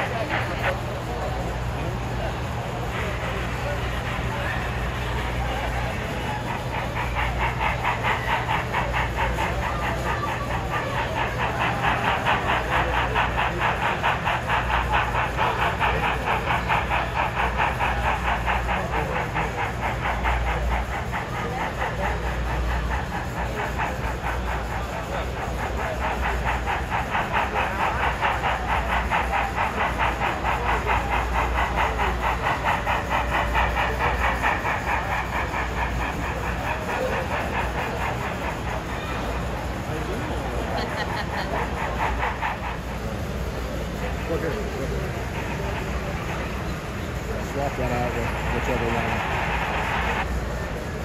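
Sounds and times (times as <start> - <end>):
model steam locomotive chuffing: 0.0 - 51.0.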